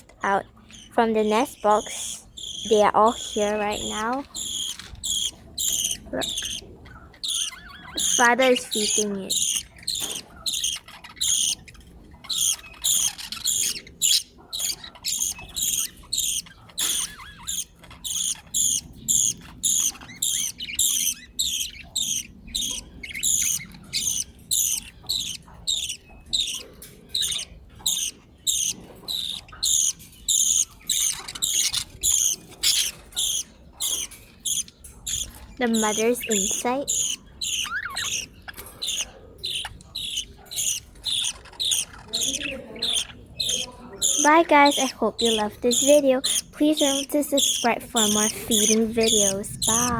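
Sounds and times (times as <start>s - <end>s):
budgerigar chicks begging calls: 0.0s - 49.9s.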